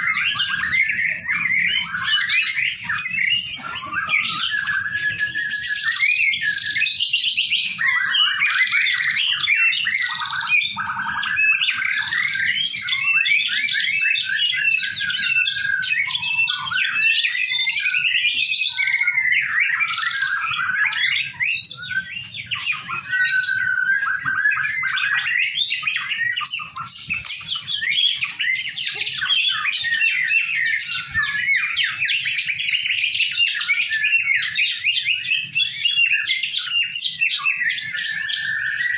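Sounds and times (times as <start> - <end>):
birds singing in chorus: 0.0 - 38.9.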